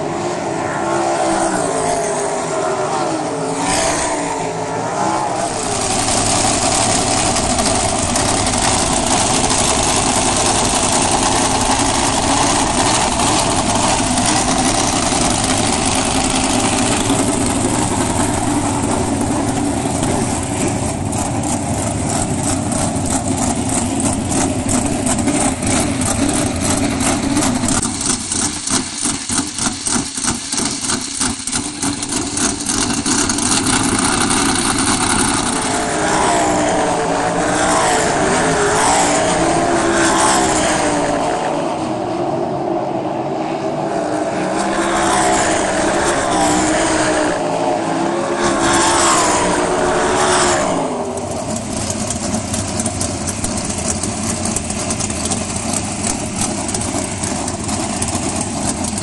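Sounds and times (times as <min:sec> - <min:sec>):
loud race car engines: 0:00.0 - 0:59.0
race cars on dirt track: 0:00.0 - 0:59.0.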